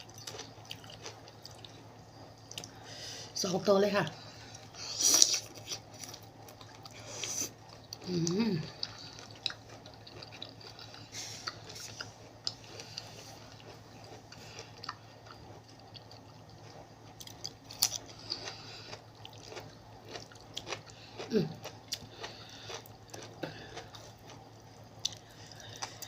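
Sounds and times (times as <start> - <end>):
person chewing food: 0.0 - 3.0, 4.2 - 26.0.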